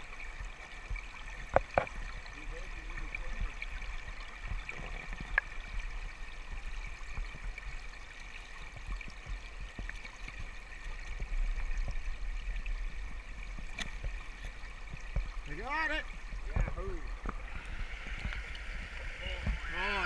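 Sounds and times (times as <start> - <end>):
river water flowing over gravel: 0.0 - 20.0.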